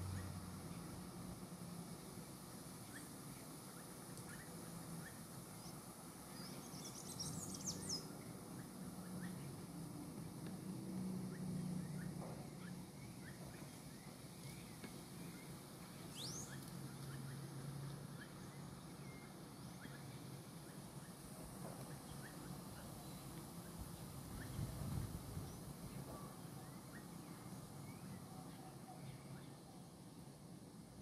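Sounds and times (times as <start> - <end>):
small birds chirping: 1.8 - 10.6, 11.2 - 31.0.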